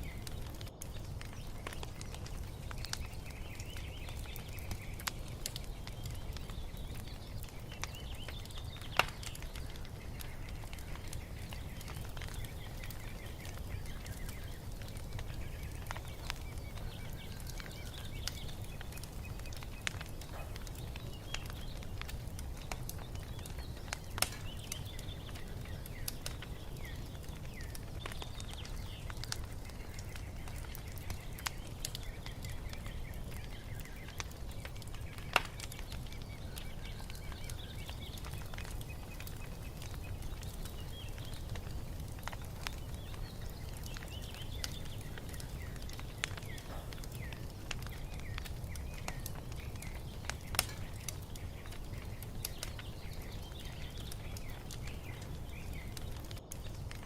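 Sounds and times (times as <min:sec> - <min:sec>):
faint birds chirping: 0:00.0 - 0:57.0
wood fire crackling: 0:00.0 - 0:57.0.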